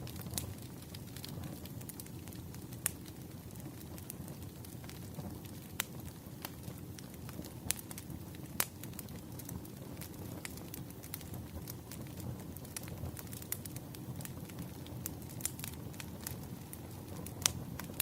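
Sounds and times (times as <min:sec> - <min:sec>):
firewood crackling and popping: 0:00.0 - 0:18.0
low rumble of flames: 0:00.0 - 0:18.0.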